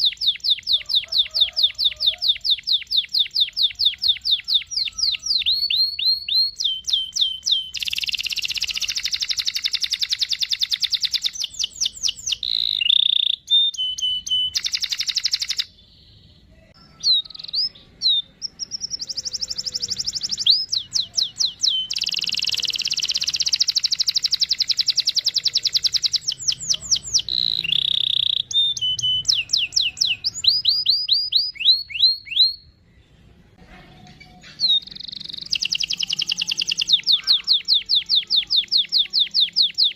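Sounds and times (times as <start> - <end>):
canary singing chirps and trills: 0.0 - 39.9.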